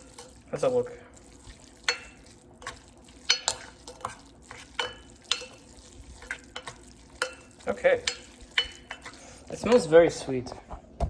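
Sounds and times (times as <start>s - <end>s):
utensil stirring noodles in pot: 0.0s - 10.2s.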